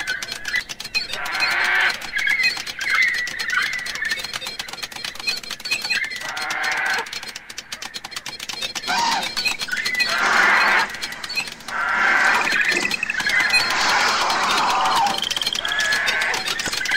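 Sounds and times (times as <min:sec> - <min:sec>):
chirping warbling electronic tones: 0:00.0 - 0:16.9
dense electronic crackling clicks: 0:00.0 - 0:16.9.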